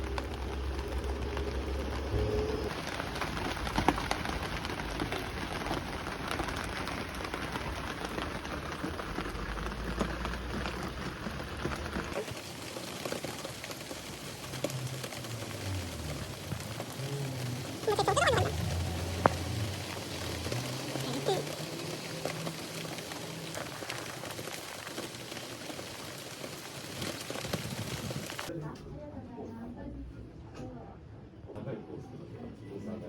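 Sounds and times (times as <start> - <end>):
rain patter: 0.0 - 28.5.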